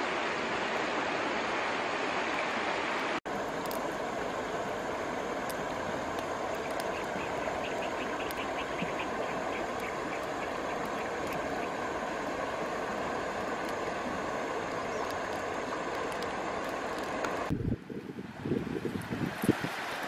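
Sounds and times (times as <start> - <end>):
stream running over stones: 0.0 - 20.0.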